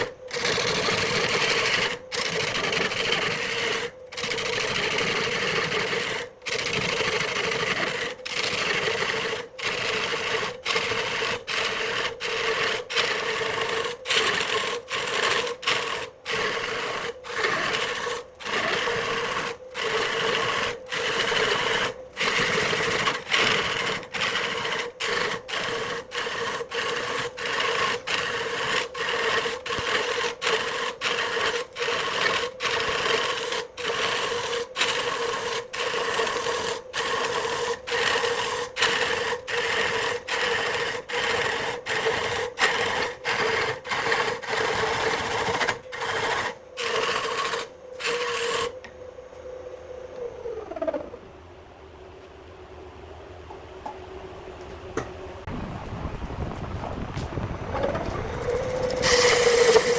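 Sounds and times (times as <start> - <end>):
tool scraping spinning wood: 0.0 - 51.3, 57.1 - 59.9
wood lathe motor hum: 0.0 - 51.3, 57.7 - 59.9.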